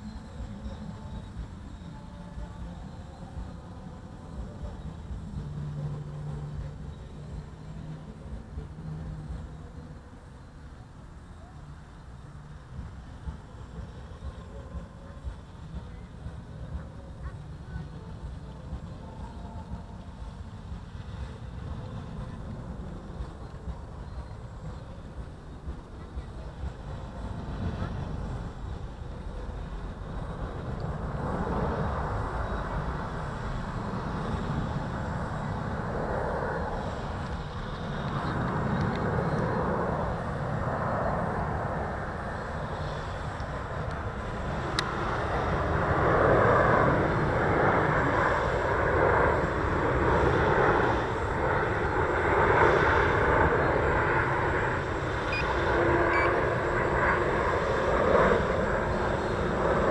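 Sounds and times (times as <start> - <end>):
wind rumble on microphone: 0.0 - 59.9
quadcopter propellers buzzing: 11.6 - 59.9.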